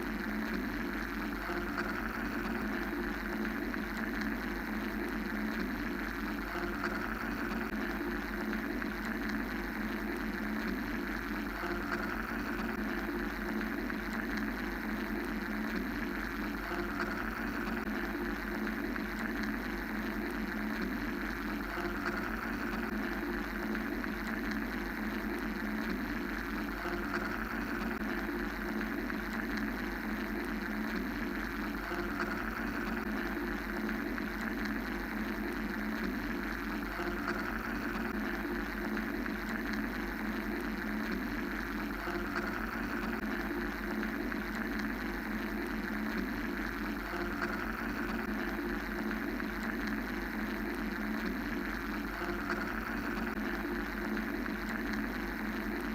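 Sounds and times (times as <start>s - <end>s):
mechanical white-noise drone: 0.0s - 55.9s.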